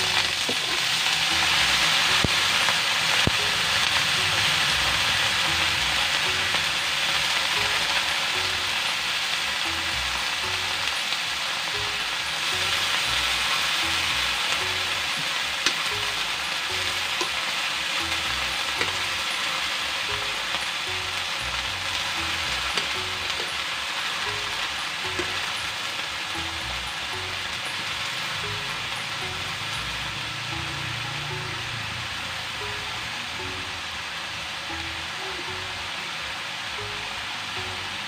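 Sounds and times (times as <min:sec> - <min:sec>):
vegetables sizzling in a wok: 0:00.0 - 0:38.0.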